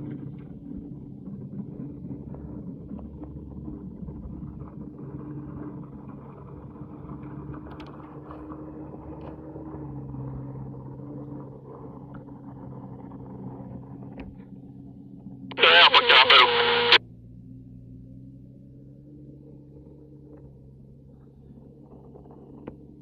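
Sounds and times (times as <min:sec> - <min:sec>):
car engine running at low revs: 0:00.0 - 0:23.0.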